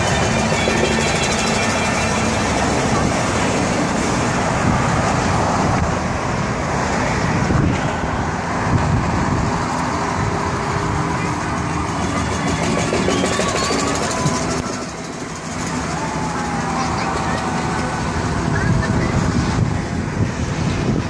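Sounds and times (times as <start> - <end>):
highway traffic passing: 0.0 - 21.0.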